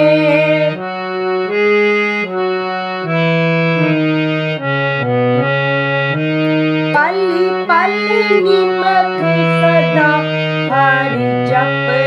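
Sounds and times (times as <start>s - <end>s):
harmonium melody: 0.0s - 12.0s.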